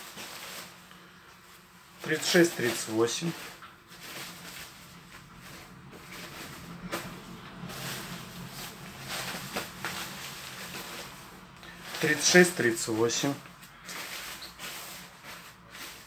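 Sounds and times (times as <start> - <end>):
nylon jacket rustling: 0.0 - 16.0.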